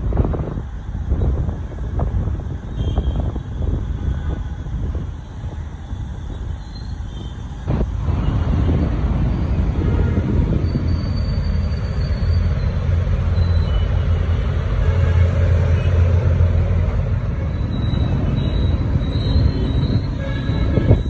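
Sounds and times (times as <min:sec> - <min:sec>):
city traffic rumble: 0:00.0 - 0:21.0
road noise: 0:00.0 - 0:21.0.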